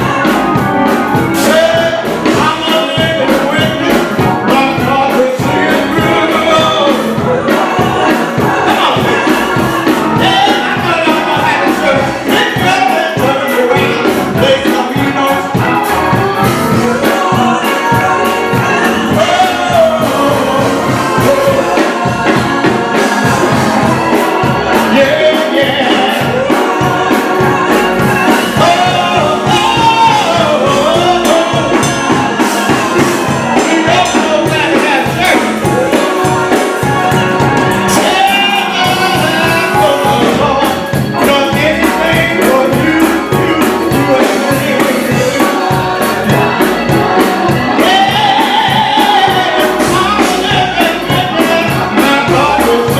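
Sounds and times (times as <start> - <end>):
band with steady beat: 0.0 - 52.9
gospel singing voices: 0.0 - 52.9.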